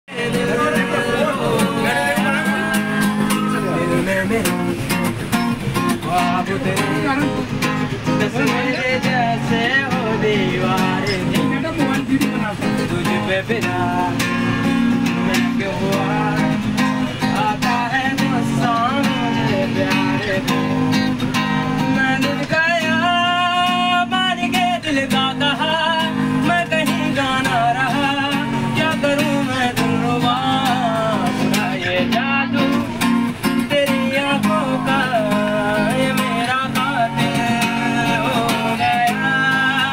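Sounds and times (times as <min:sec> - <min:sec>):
man singing: 0:00.0 - 0:39.9
acoustic guitar strumming: 0:00.1 - 0:39.9.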